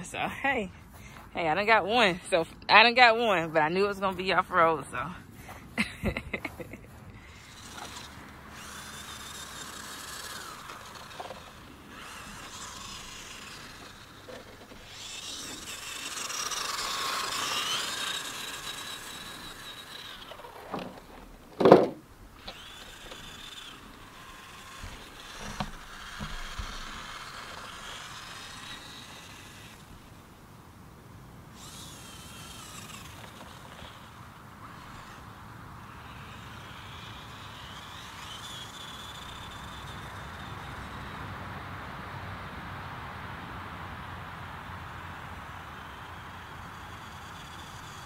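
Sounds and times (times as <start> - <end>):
rc truck motor whining: 0.0 - 48.0.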